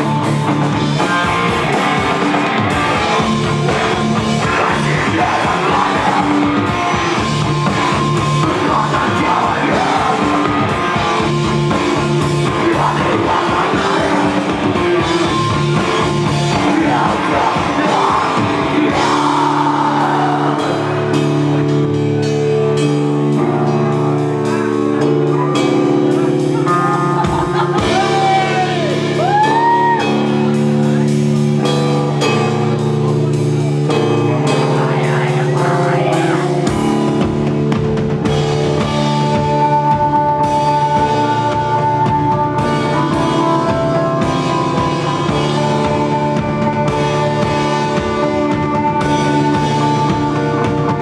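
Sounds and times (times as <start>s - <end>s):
distorted guitar: 0.0s - 51.0s
drum kit: 0.0s - 51.0s
person singing: 0.0s - 51.0s
rock band playing: 0.0s - 51.0s.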